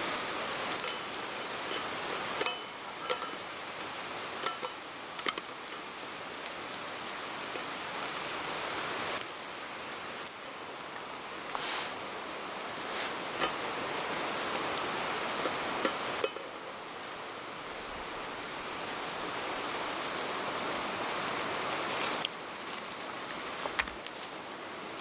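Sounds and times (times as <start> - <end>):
river water rushing: 0.0 - 23.3.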